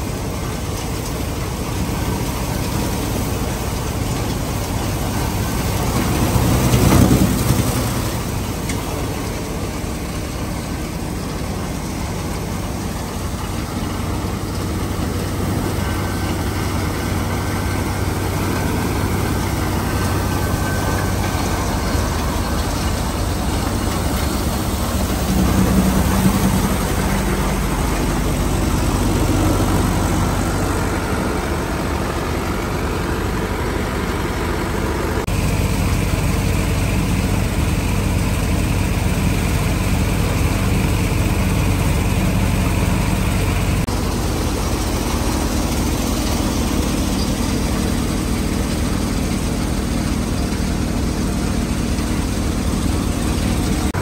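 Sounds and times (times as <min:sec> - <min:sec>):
diesel tractor engine drone: 0:00.0 - 0:54.0
thresher drum and blower whirring: 0:00.0 - 0:54.0.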